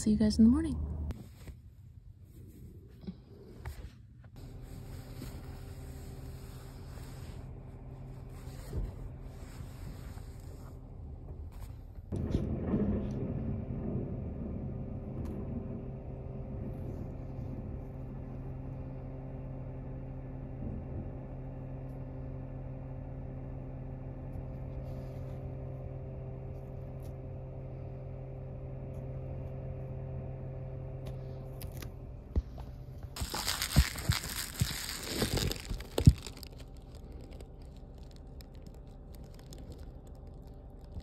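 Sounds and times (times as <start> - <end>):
garbage truck engine humming: 4.4 - 41.0.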